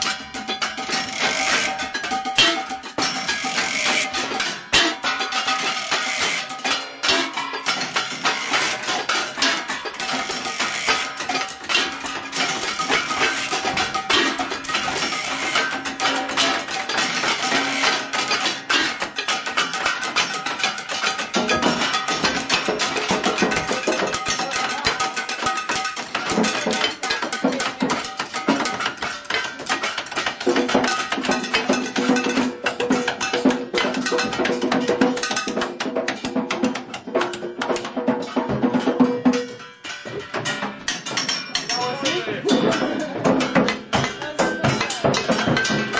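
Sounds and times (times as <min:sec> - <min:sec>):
percussion on kitchen utensils: 0:00.0 - 0:45.9.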